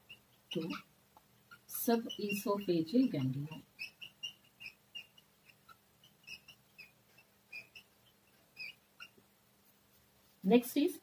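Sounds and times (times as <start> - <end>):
marker squeaking on whiteboard: 0.0 - 9.2.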